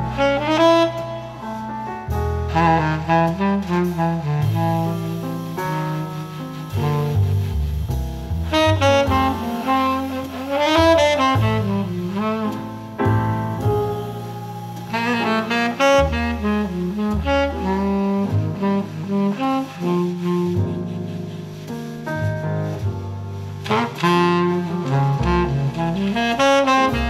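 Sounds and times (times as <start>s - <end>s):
jazz tenor saxophone melody: 0.0s - 27.0s
walking double bass: 0.0s - 27.0s.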